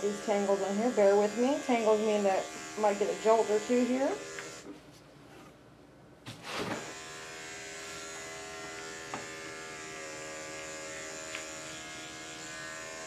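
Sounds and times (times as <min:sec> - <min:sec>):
electric clipper buzzing: 0:00.0 - 0:04.7, 0:06.6 - 0:13.0.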